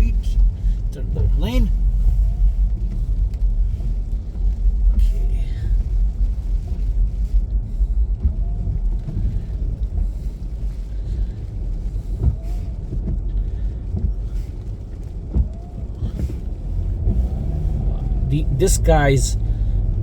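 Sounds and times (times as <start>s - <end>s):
car and tyres rumbling on snow: 0.0s - 20.0s.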